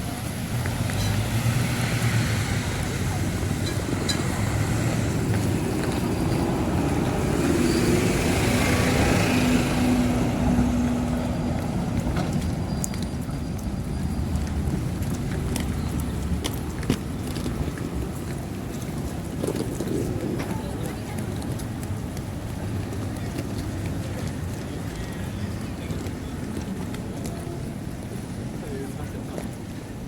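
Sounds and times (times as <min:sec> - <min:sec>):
faint background voices: 0:00.0 - 0:30.0
street noise: 0:00.0 - 0:30.0.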